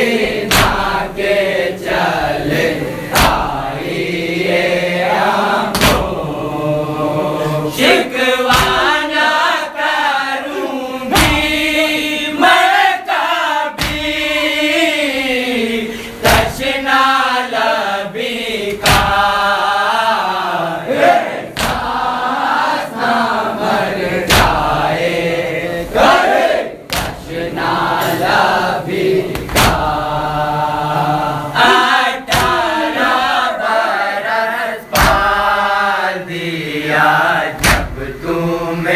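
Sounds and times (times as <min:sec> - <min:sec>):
men chanting mournfully: 0:00.0 - 0:38.9.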